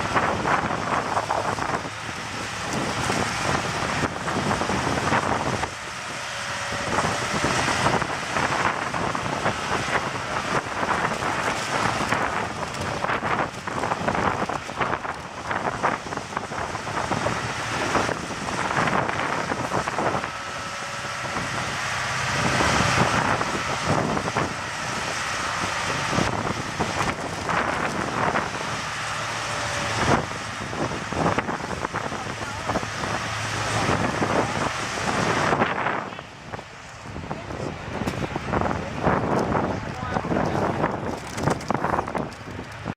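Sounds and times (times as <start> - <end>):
off-road vehicle engines running: 0.0 - 42.9
wind buffeting microphone: 0.0 - 42.9.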